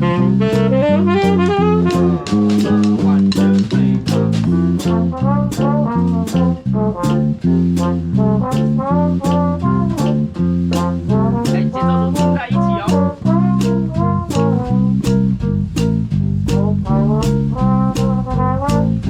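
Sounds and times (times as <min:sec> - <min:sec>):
drum and cymbal beat: 0:00.0 - 0:19.0
horns playing swing tune: 0:00.0 - 0:19.0
walking bass line: 0:00.0 - 0:19.0.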